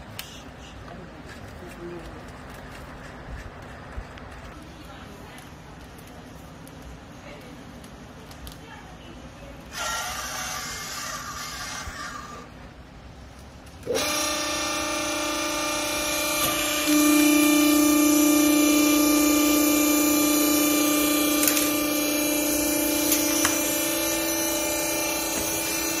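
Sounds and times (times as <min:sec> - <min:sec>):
hydraulic unit hum and whine: 0:00.0 - 0:26.0.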